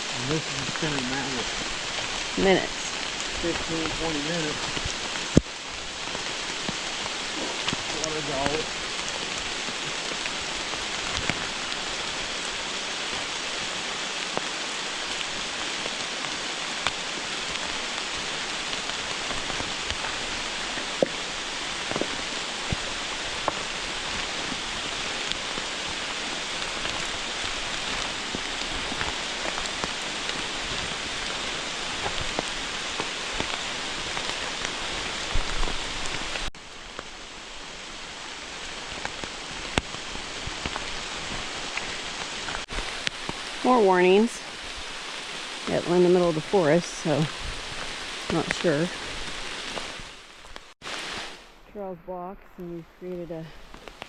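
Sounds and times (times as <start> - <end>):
rain falling: 0.0 - 54.0
raindrops ticking: 0.0 - 54.0.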